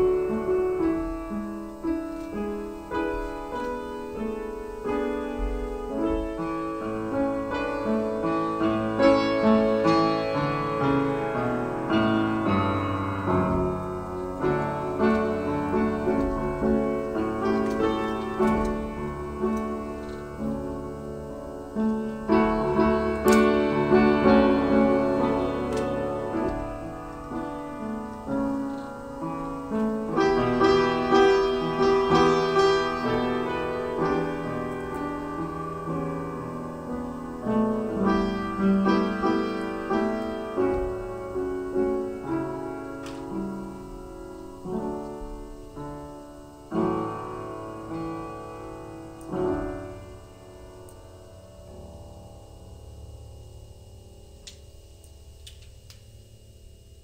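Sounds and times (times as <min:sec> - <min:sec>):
piano music: 0:00.0 - 0:53.4.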